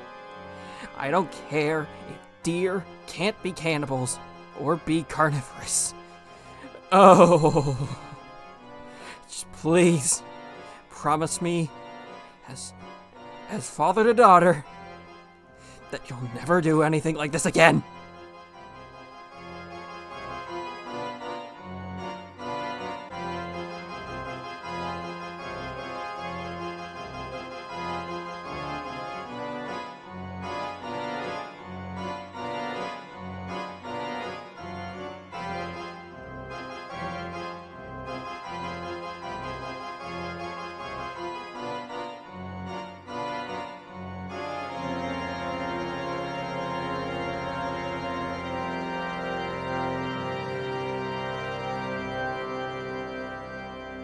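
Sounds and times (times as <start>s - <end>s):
organ music: 0.0s - 54.0s.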